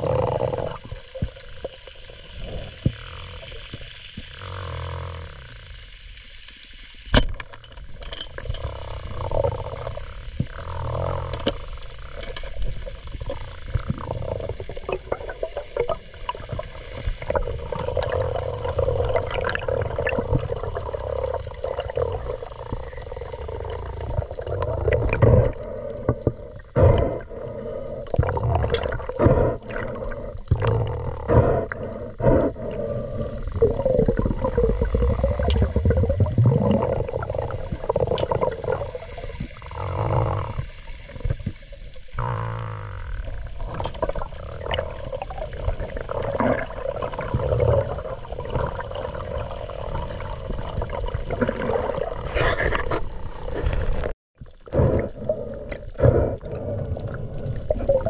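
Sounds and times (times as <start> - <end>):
muffled underwater water noise: 0.0 - 58.0.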